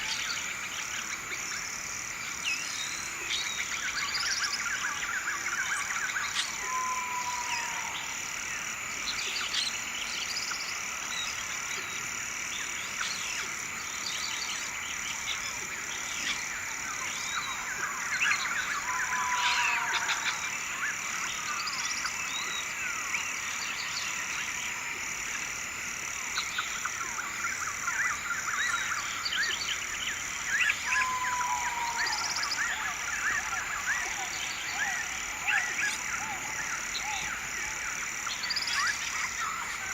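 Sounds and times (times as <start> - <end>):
frogs chorus: 0.0 - 39.9
insects droning: 0.0 - 39.9.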